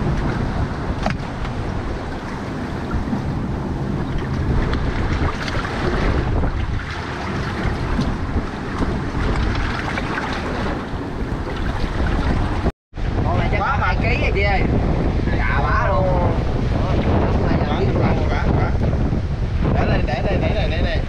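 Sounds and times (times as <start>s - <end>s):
seawater surging between boulders: 0.0s - 21.0s
wind buffeting microphone: 0.0s - 21.0s.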